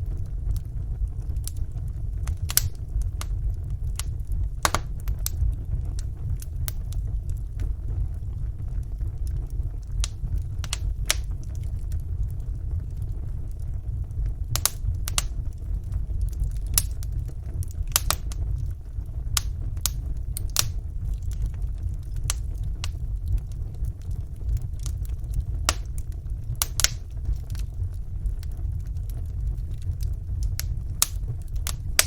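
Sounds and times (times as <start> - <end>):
fire flames rumbling: 0.0 - 32.0
logs crackling and popping: 0.0 - 32.0.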